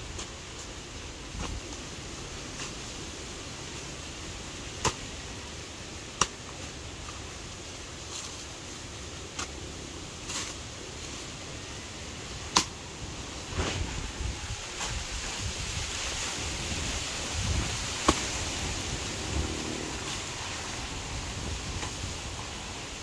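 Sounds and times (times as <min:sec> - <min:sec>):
leaves rustling: 0:00.0 - 0:23.0.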